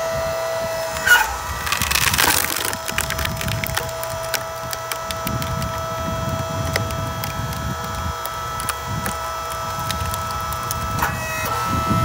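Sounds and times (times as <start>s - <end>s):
log splitter humming: 0.3s - 12.0s
small wood crackles: 0.8s - 11.6s
wood cracking and splintering: 0.8s - 11.6s.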